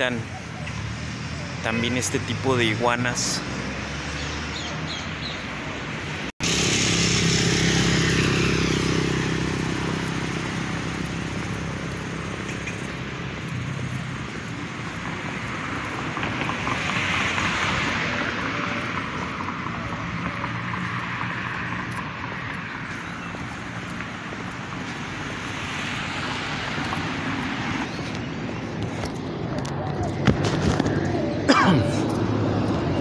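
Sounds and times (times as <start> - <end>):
motor traffic: 0.0 - 33.0.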